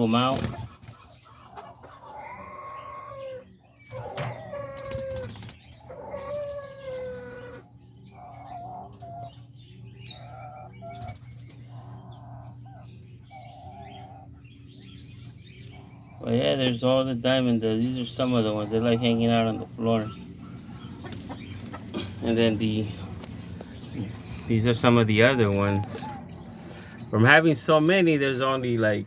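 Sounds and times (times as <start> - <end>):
doves cooing: 0.0 - 28.0
steady low hum: 0.0 - 29.0.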